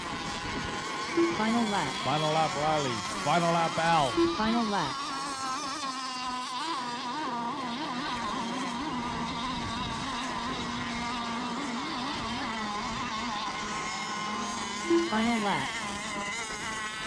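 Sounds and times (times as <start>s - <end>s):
model boat engines whining: 0.0s - 17.0s.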